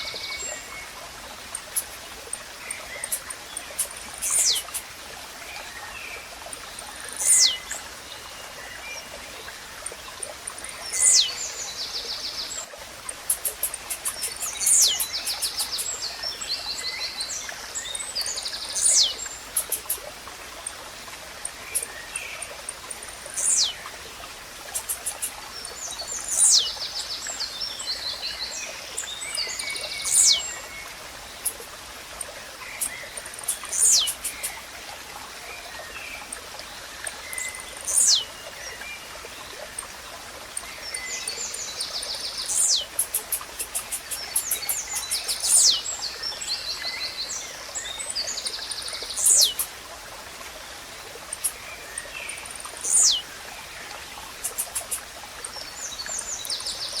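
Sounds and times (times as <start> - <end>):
small birds chirping and trilling: 0.0 - 20.1, 21.4 - 34.7, 35.7 - 49.8, 51.2 - 57.0
background nature hiss: 0.0 - 57.0.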